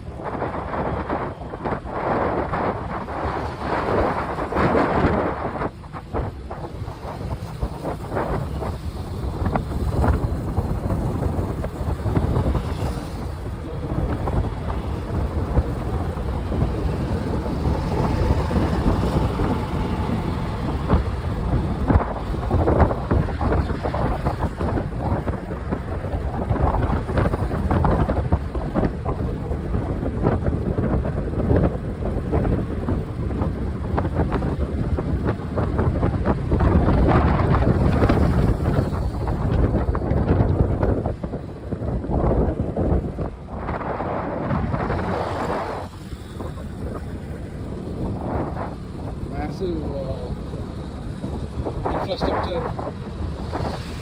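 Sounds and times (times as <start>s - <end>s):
riding noise rush: 0.0s - 54.0s
wind buffeting microphone: 0.0s - 54.0s.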